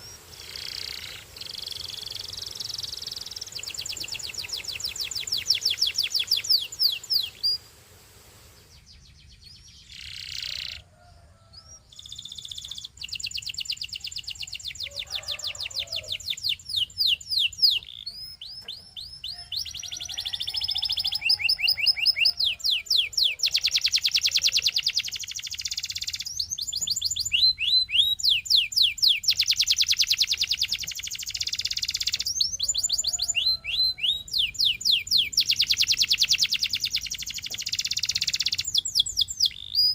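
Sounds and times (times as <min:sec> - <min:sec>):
canary singing rapid trills: 0:00.0 - 0:07.6, 0:08.8 - 0:10.9, 0:11.6 - 0:39.9.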